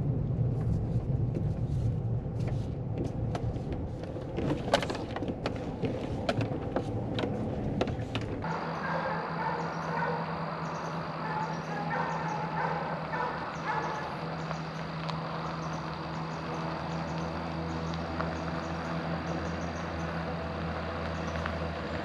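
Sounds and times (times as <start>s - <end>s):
vehicle engine drone: 0.0s - 22.0s.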